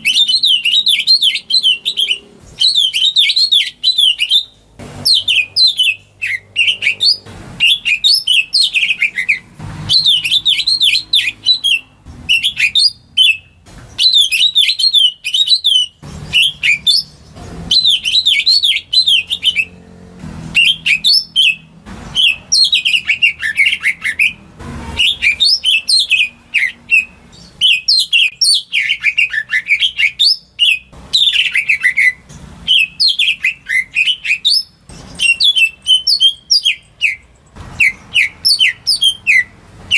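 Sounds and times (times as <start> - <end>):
bird singing whistled notes: 0.0 - 19.8, 20.5 - 24.4, 25.0 - 39.6.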